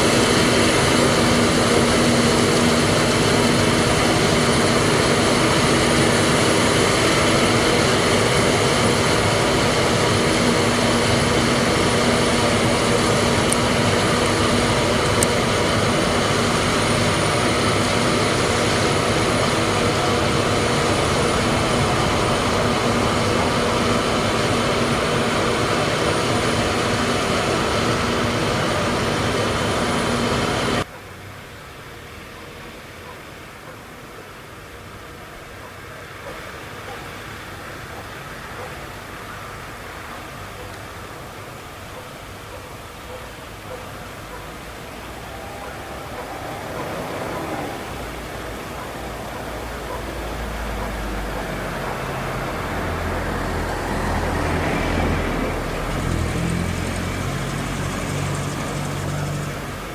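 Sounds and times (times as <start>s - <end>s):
harvester engine drone: 0.0s - 30.9s, 34.7s - 59.9s
steady high machine whine: 0.0s - 30.9s, 37.7s - 59.9s.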